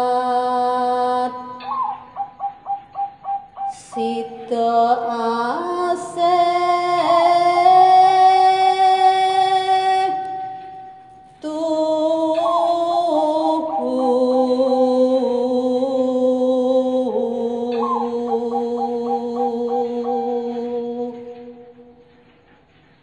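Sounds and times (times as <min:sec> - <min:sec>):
woman singing slow song: 0:00.0 - 0:02.2, 0:03.7 - 0:22.2.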